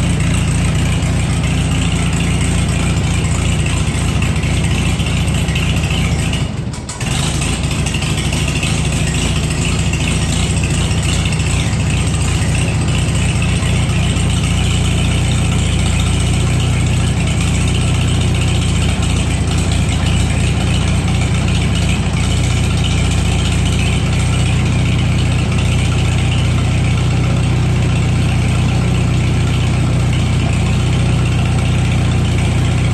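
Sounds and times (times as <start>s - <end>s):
tractor engine idling: 0.0s - 32.9s.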